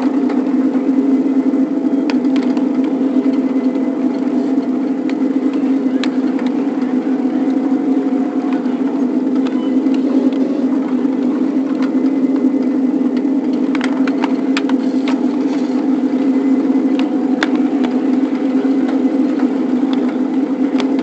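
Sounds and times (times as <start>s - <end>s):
locomotive mechanical drone: 0.0s - 21.0s.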